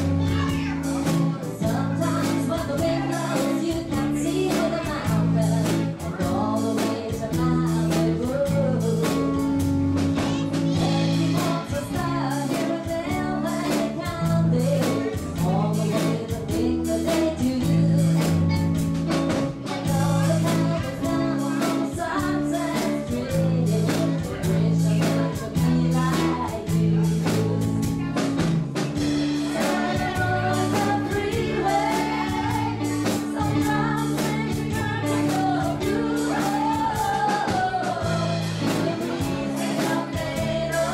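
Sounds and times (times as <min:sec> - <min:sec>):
bass line: 0:00.0 - 0:40.9
drums beating: 0:00.0 - 0:40.9
electric guitar: 0:00.0 - 0:40.9
woman singing into microphone: 0:01.4 - 0:09.6, 0:10.7 - 0:18.6, 0:19.8 - 0:27.7, 0:29.4 - 0:40.9.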